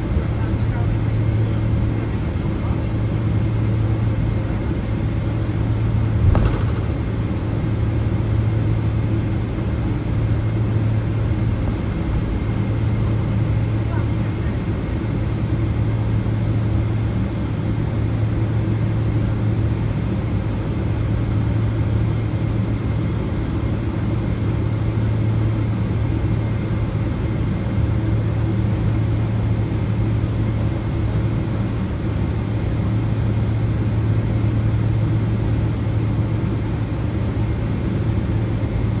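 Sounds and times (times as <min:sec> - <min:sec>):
jet engines idling: 0:00.0 - 0:39.0.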